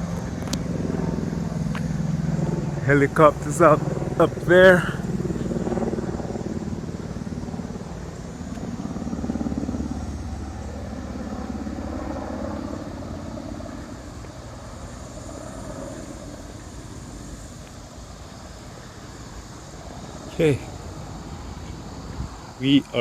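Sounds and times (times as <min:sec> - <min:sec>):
helicopter flying overhead: 0:00.0 - 0:23.0.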